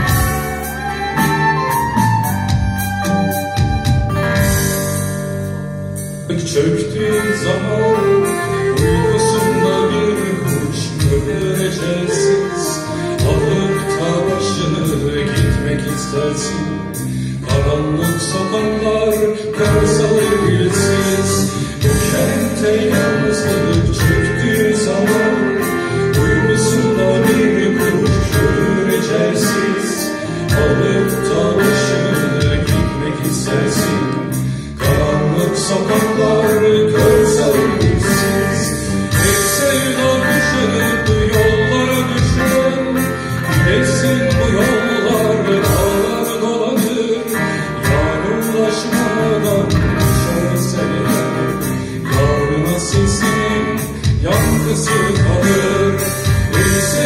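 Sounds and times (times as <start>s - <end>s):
man singing: 6.2s - 57.0s.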